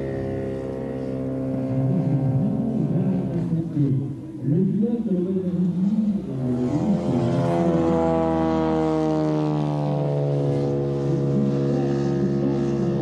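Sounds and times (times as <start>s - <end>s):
model aircraft engine and propeller: 0.0s - 13.0s.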